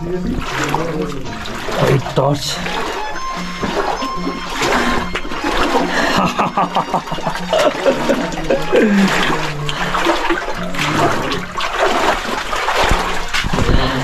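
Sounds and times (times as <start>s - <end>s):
person wading through water: 0.0s - 14.0s.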